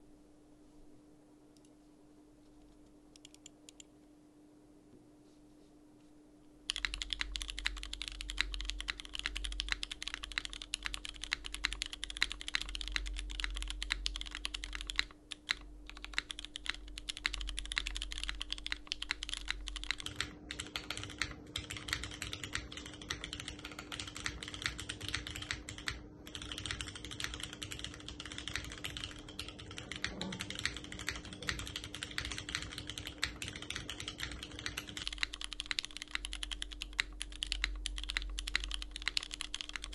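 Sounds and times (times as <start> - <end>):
fast mechanical keyboard typing: 6.7 - 39.9.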